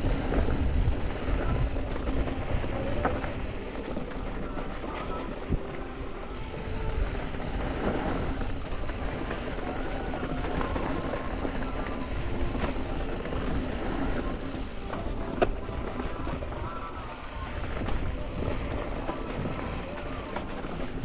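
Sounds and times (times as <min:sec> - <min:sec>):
bike rattling: 0:00.0 - 0:21.0.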